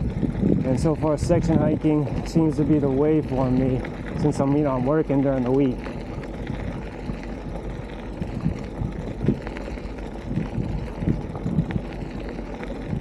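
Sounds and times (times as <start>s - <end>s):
bicycle tyres rolling on dirt: 0.0s - 13.0s
bike rattling: 0.0s - 13.0s.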